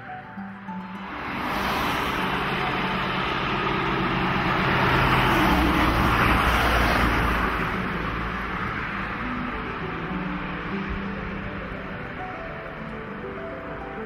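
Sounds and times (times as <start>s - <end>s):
lorry driving past: 0.7s - 14.0s
van driving past: 0.7s - 14.0s.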